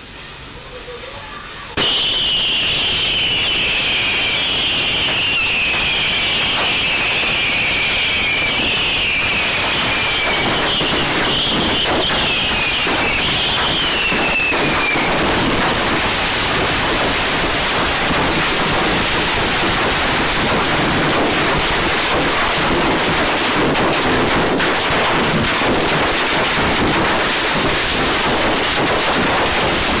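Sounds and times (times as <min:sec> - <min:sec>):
fireworks crackling and banging: 0:01.8 - 0:30.0.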